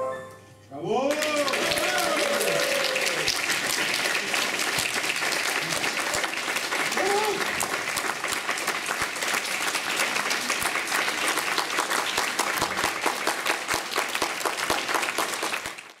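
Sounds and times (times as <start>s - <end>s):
audience applauding: 1.0s - 16.0s.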